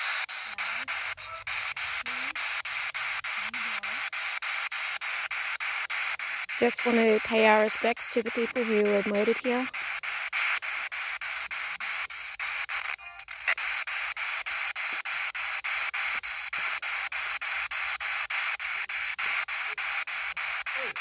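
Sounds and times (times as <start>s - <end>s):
radio static chopped by sweeping: 0.0s - 21.0s.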